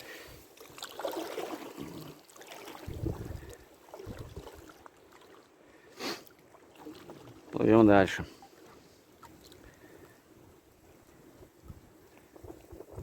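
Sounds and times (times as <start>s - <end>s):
water splashing around a boat: 0.0s - 13.0s.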